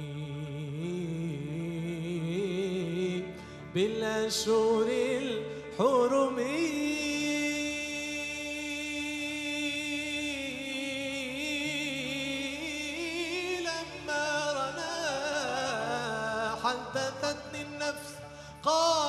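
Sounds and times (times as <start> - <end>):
man singing with vibrato: 0.0 - 19.0.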